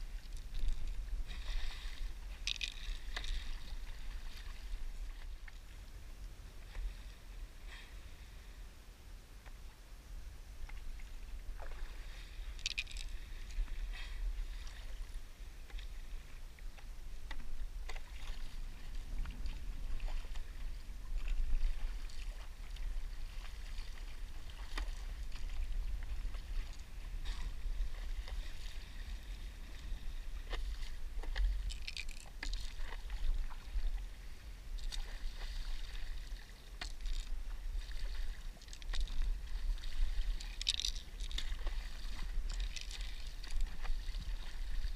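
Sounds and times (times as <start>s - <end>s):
paddle pulling through water: 0.0s - 44.9s
steady low rumble: 0.0s - 44.9s
water splashes and drips: 0.1s - 5.7s, 10.7s - 16.0s, 17.3s - 34.2s, 34.8s - 44.9s.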